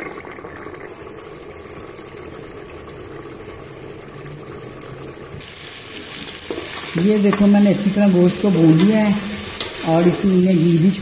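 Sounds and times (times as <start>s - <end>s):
curry cooking in a pot: 0.0s - 11.0s.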